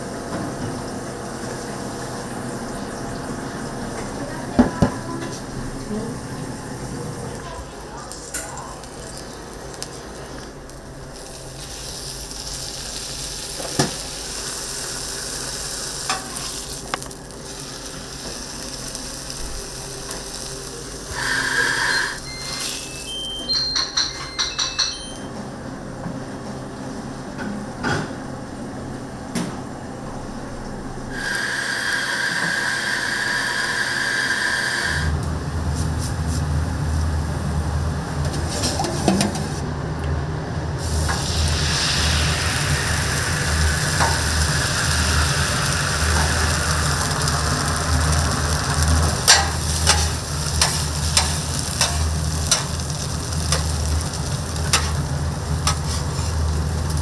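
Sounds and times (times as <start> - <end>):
food sizzling: 1.0 - 24.6, 30.9 - 39.6, 40.8 - 57.0.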